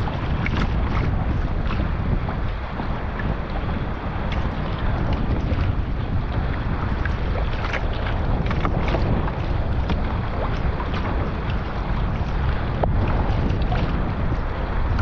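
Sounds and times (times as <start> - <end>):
water splashing around kayak: 0.0 - 15.0
wind buffeting microphone: 0.0 - 15.0.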